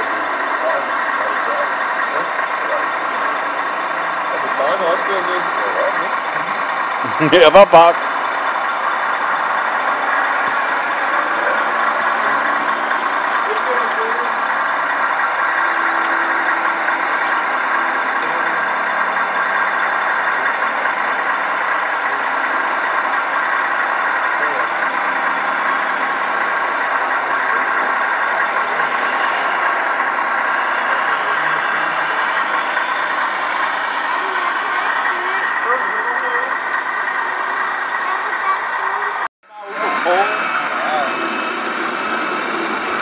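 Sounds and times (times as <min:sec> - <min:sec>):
simulated diesel truck engine: 0:00.0 - 0:43.0.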